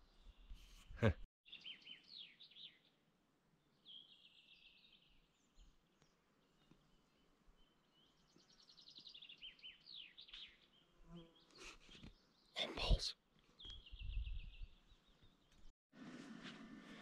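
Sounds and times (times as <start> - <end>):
faint birdsong chirps and trills: 0.0 - 15.7.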